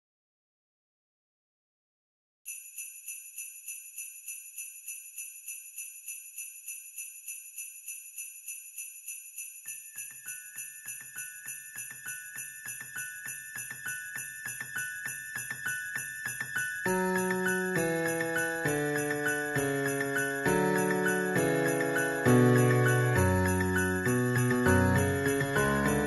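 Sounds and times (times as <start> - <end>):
jingle bells shaken: 2.5 - 26.0.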